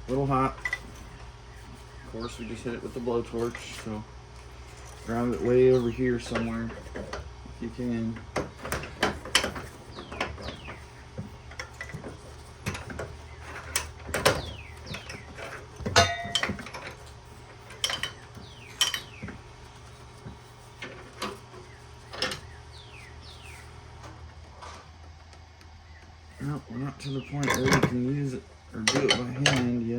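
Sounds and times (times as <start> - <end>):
metal tools clanking: 0.0 - 4.0, 4.6 - 24.2, 26.4 - 29.9
steady low hum: 0.0 - 29.9.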